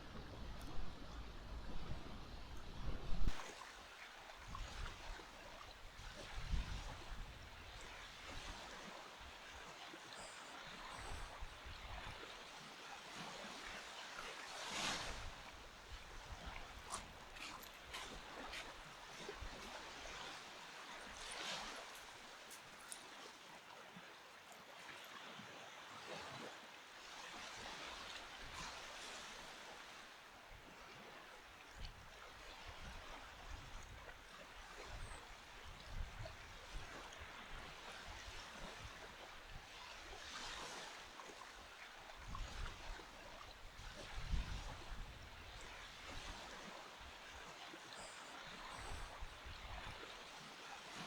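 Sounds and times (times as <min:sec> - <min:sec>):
small waves washing on sand: 0:03.3 - 0:51.0.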